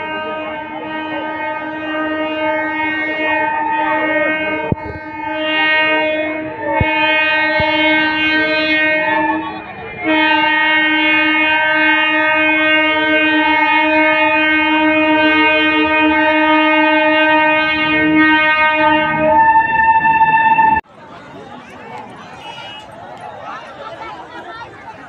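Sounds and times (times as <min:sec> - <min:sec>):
locomotive horn blast: 0:00.0 - 0:20.8.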